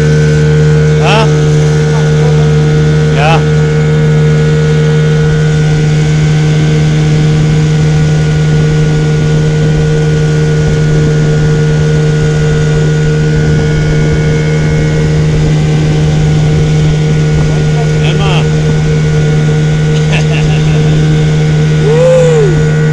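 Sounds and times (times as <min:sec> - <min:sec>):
boat motor droning: 0:00.0 - 0:22.9.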